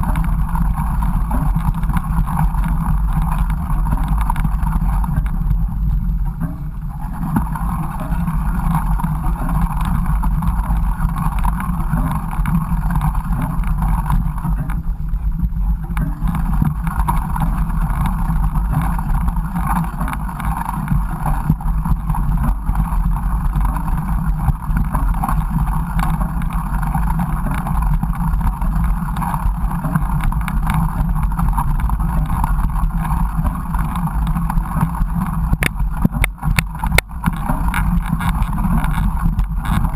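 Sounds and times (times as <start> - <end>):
bike ride rumbling: 0.0 - 39.9
wind buffeting microphone: 0.0 - 39.9.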